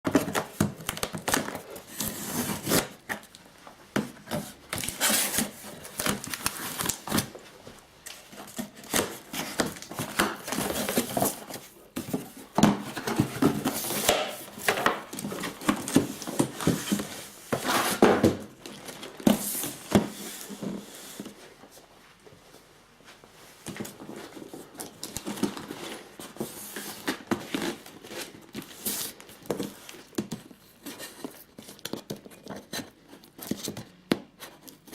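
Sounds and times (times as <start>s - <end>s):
packaging rustling and crinkling: 0.1s - 22.2s, 23.2s - 34.9s.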